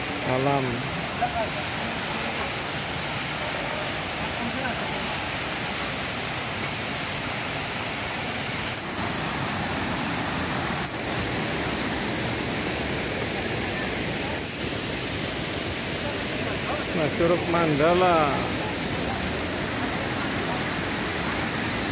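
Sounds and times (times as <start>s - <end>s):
river cascading over weir: 0.0s - 21.9s
waterfall rushing: 0.0s - 21.9s.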